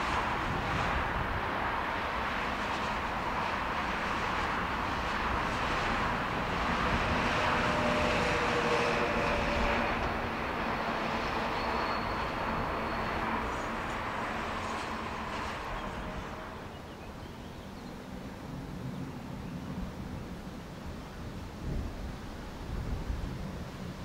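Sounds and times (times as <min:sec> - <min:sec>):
distant train rumbling: 0:00.0 - 0:24.0.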